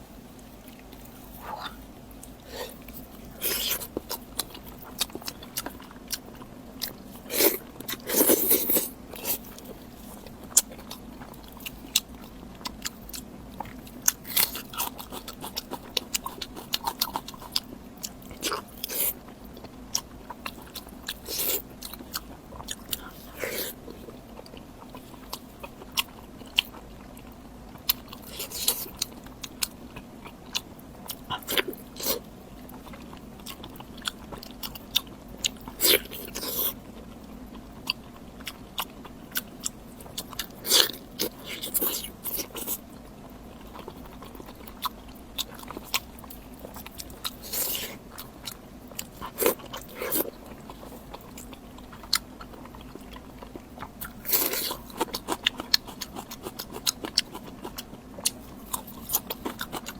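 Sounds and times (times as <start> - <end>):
chewing and biting: 0.6 - 59.9.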